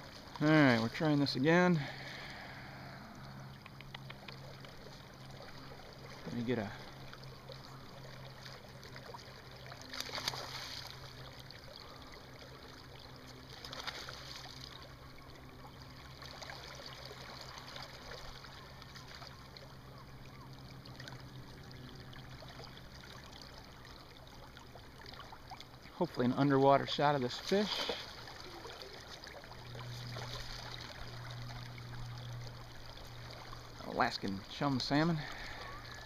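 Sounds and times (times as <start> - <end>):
low steady hum: 0.0 - 36.0
river water flowing around legs: 0.0 - 36.0
water splashes: 0.0 - 36.0.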